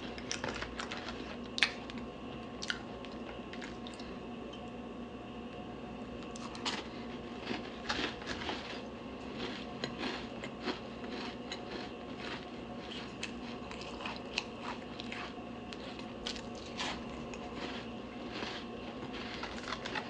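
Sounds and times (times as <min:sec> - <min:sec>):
chewing crunchy cookies: 0:00.0 - 0:04.2, 0:06.2 - 0:20.0
faint steady hum: 0:00.0 - 0:20.0.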